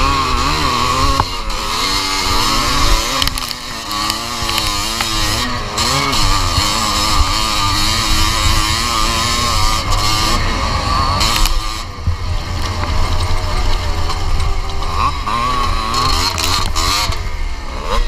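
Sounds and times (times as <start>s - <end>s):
wind rumbling on microphone: 0.0s - 17.7s
motorcycle engine revving: 0.0s - 18.0s.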